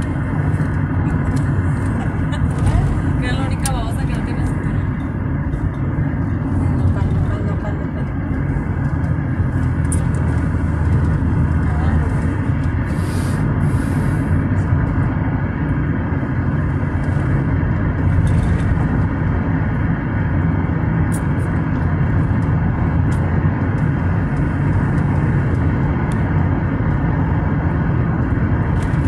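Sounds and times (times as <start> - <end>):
car engine and tyre noise: 0.0 - 29.0.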